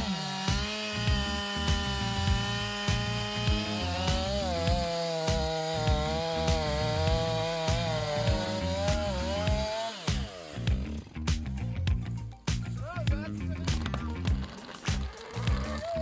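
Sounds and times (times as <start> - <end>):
chainsaw cutting a log: 0.0 - 11.2, 13.4 - 16.0
background music with steady beat: 0.0 - 15.6.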